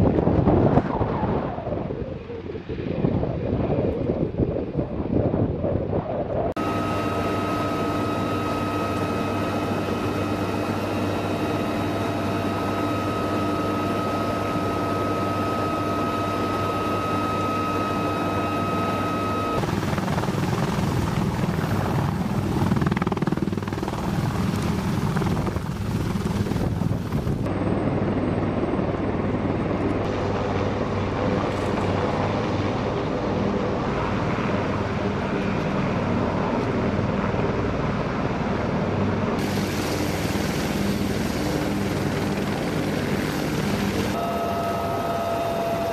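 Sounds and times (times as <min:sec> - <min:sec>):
engine whine: 0:00.0 - 0:45.9
helicopter rotor and engine: 0:00.0 - 0:45.9.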